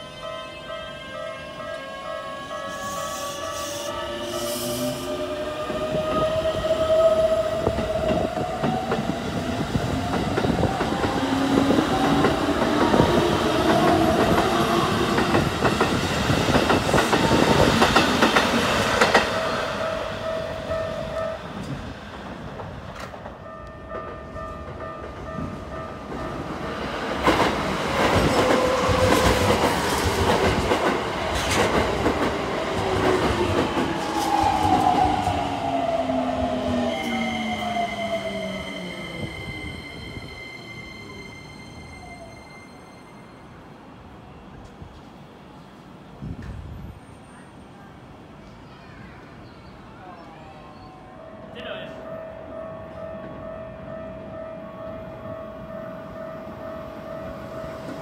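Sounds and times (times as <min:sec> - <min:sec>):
rumbling wheel and rail noise: 0:01.8 - 0:48.6.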